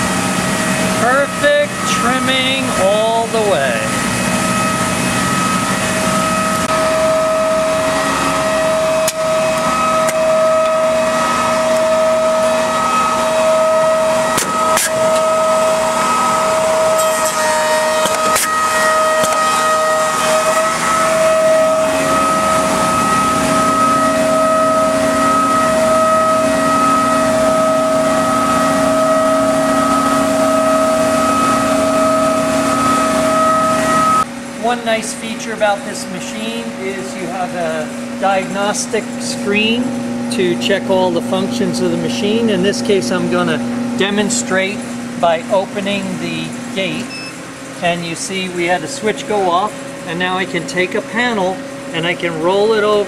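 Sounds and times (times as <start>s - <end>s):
machine motor whine: 0.0s - 53.0s.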